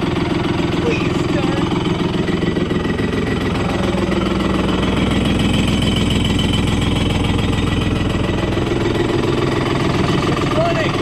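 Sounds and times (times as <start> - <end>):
jet ski engine running roughly: 0.0 - 11.0.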